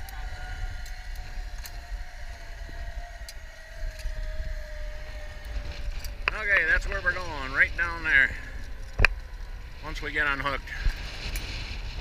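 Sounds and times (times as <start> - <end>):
whine sinking in pitch: 0.0 - 12.0
wind buffeting microphone: 0.0 - 12.0.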